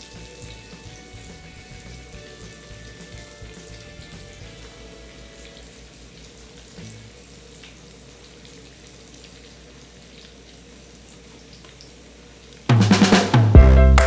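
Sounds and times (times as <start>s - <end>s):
hot oil sizzling and popping: 0.0s - 12.7s.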